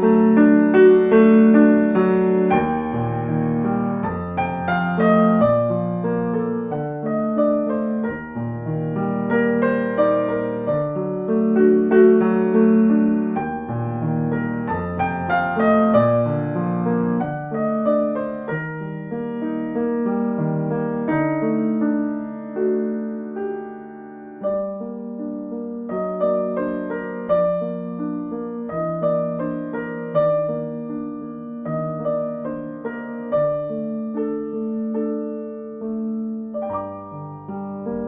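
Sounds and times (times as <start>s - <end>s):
slow solo piano music: 0.0s - 38.0s.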